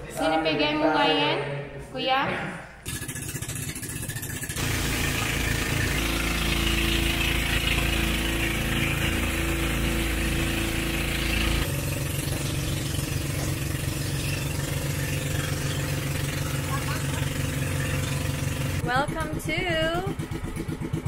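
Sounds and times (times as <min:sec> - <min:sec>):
motorboat engine running: 0:02.9 - 0:21.0.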